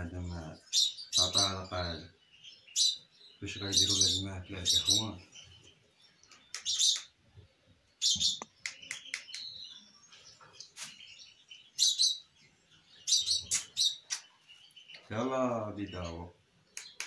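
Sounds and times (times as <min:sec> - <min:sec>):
bird chicks chirping: 0:00.0 - 0:17.0.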